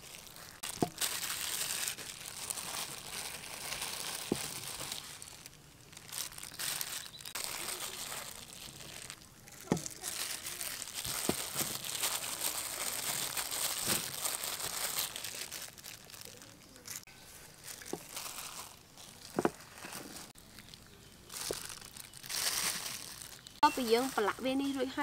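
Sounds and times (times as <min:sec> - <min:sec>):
flour rustling: 0:00.0 - 0:25.0
plastic glove crinkling: 0:00.0 - 0:25.0.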